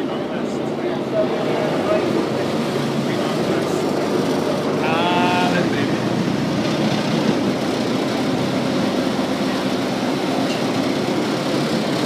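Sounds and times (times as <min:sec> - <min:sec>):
boat motor rumbling and rattling: 0:00.0 - 0:12.0.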